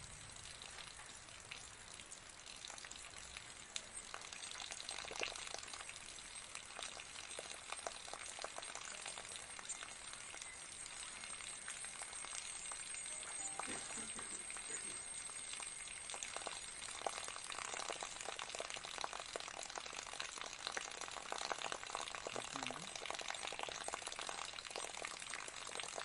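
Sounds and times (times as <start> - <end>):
fountain water trickling: 0.0 - 26.0.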